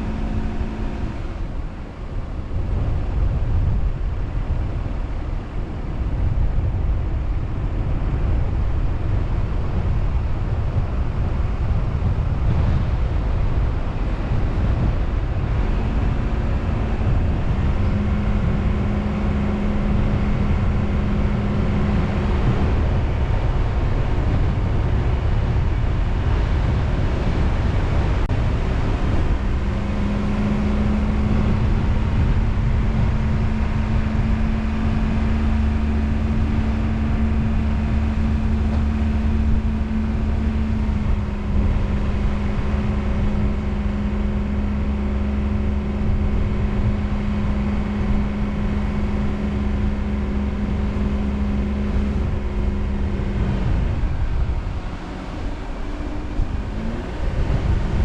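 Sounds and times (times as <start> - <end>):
car engine and road noise: 0.0 - 58.0
engine hum: 0.0 - 58.0.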